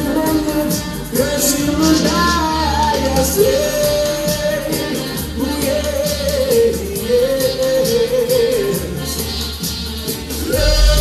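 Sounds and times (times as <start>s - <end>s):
person singing into microphone: 0.0s - 11.0s
reggae music with deep bass: 0.0s - 11.0s.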